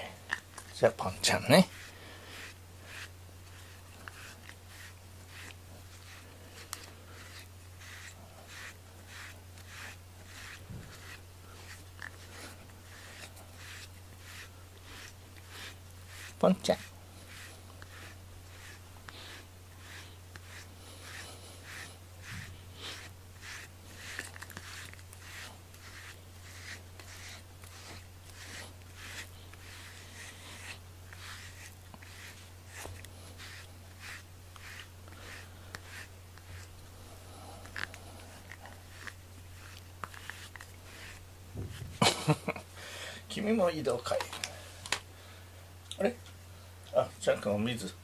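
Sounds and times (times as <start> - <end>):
steady low hum: 0.0 - 43.6
brush stroking cat fur: 0.0 - 45.0, 46.9 - 48.0.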